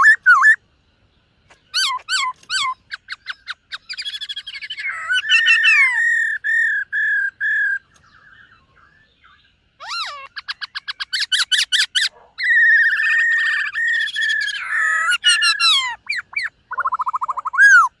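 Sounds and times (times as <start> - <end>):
bird singing: 0.0 - 18.0.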